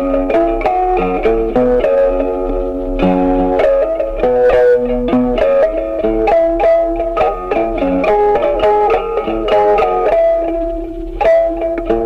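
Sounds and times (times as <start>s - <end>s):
plucked stick zither notes: 0.0s - 12.0s.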